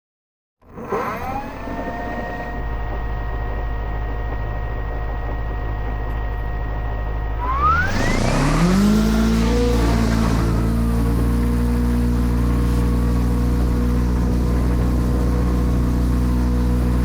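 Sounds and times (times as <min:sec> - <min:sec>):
rc helicopter motors whining: 0:00.6 - 0:17.0
low hum: 0:01.4 - 0:17.0.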